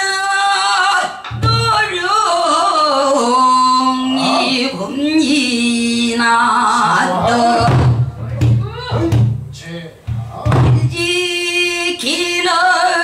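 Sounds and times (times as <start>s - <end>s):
woman singing: 0.0s - 9.2s, 10.7s - 13.0s.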